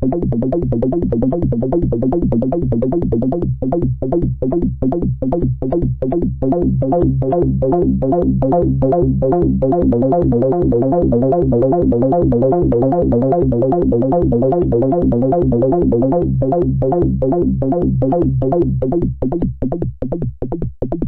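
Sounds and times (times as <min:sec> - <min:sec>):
synthesizer bass pattern: 0:00.0 - 0:21.0.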